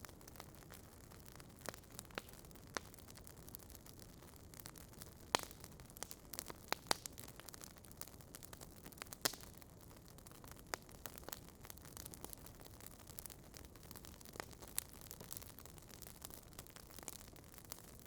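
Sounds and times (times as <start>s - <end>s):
fire crackling and popping: 0.0s - 18.0s
soft hiss of fire: 0.0s - 18.0s.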